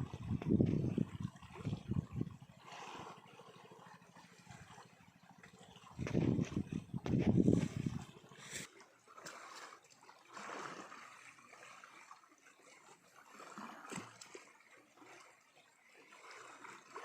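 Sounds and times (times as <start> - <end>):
stream water gurgling: 0.0 - 17.0.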